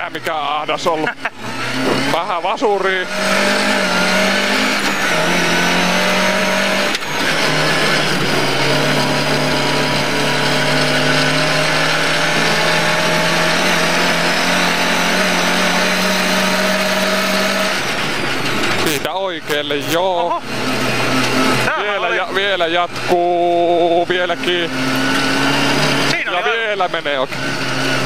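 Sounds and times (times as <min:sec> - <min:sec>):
car engine at high revs: 0:00.0 - 0:28.0.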